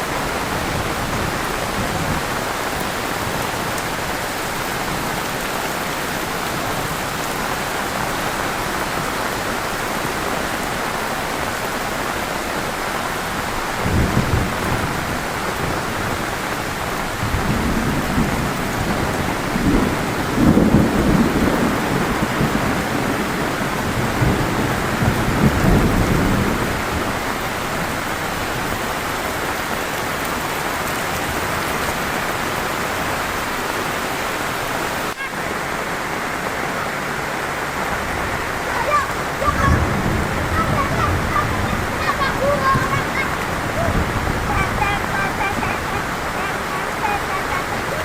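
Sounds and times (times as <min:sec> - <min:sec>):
thunder rumbling: 0:00.0 - 0:28.8, 0:35.1 - 0:48.0
heavy rain pouring: 0:00.0 - 0:48.0.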